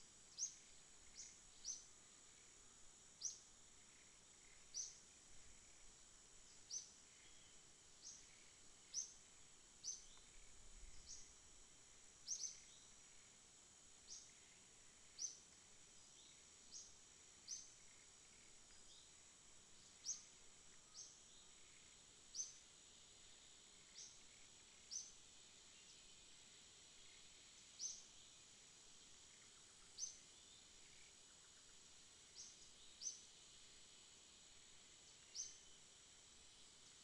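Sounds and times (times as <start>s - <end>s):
sharp high insect chirps: 0.0s - 13.4s, 14.0s - 26.4s, 27.0s - 36.9s
insects high-pitched drone: 0.0s - 37.0s.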